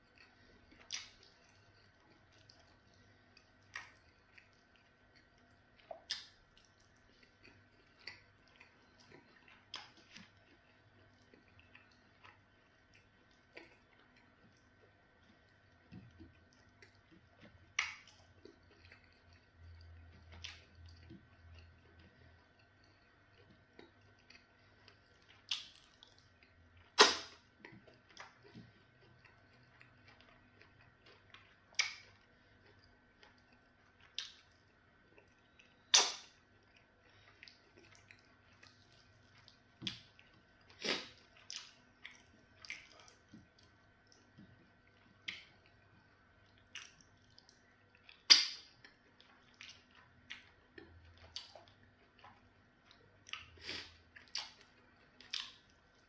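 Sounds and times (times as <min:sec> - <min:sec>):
faint steady hum: 0:00.0 - 0:56.0
wet mouth smacks and chewing: 0:00.1 - 0:45.8, 0:46.4 - 0:56.0.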